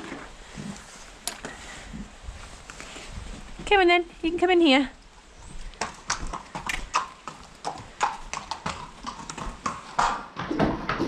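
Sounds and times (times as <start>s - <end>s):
horse hooves on concrete: 0.0s - 11.0s.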